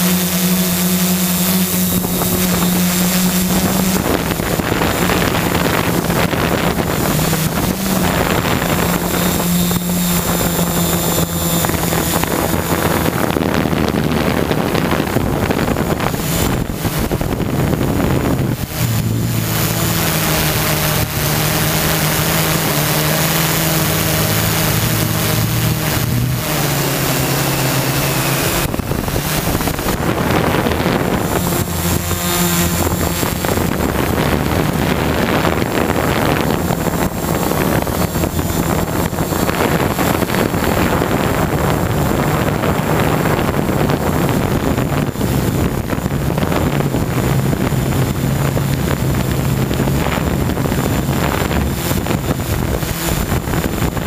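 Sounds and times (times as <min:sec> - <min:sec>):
drone motors and propellers: 0:00.0 - 0:54.0
wind on microphone: 0:00.0 - 0:54.0.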